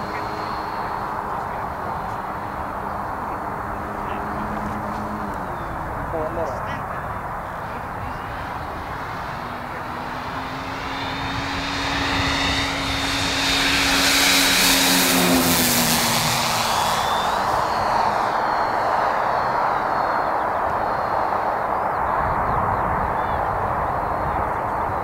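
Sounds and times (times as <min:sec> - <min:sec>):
model plane engines flying by: 0:00.0 - 0:25.0.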